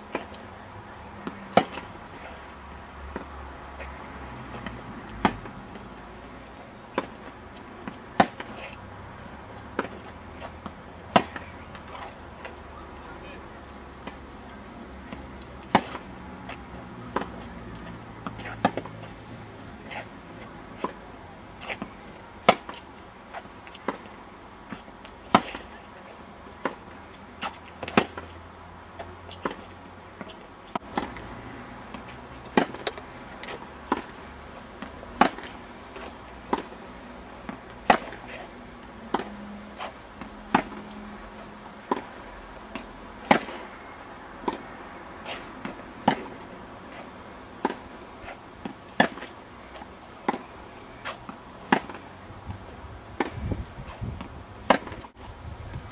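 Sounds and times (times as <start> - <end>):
tennis balls struck with rackets: 0.1 - 8.8, 9.5 - 19.2, 21.6 - 28.4, 29.0 - 43.8, 44.4 - 55.2.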